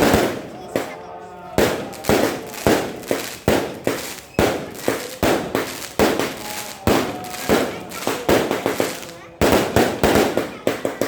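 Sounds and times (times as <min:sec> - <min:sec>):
firecracker rockets banging: 0:00.0 - 0:11.0.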